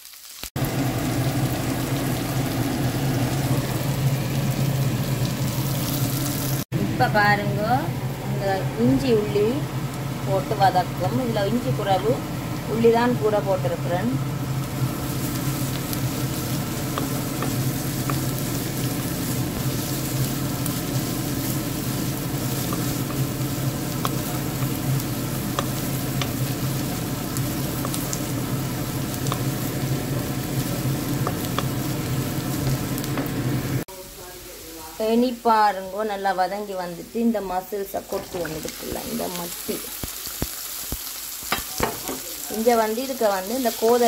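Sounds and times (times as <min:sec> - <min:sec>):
food sizzling in hot oil: 0:00.0 - 0:44.0.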